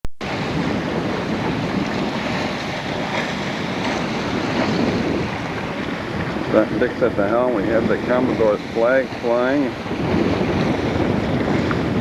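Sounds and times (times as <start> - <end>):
water rushing along hull: 0.2 - 12.0
wind buffeting microphone: 0.2 - 12.0.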